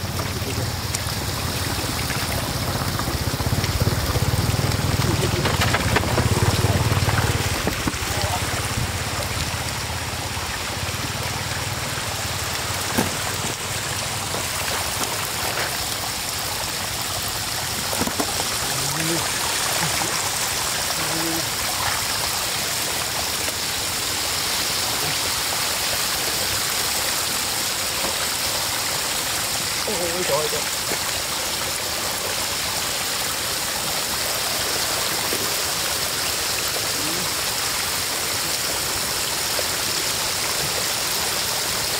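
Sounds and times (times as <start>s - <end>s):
water rushing over dirt road: 0.0s - 41.9s.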